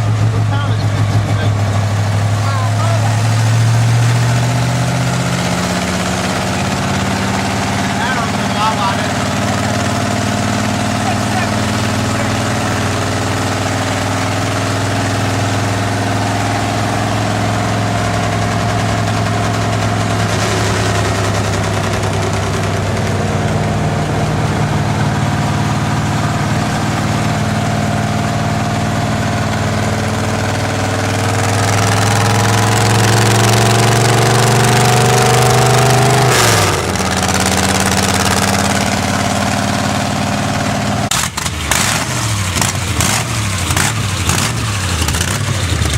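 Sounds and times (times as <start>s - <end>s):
car engine droning: 0.0s - 45.9s.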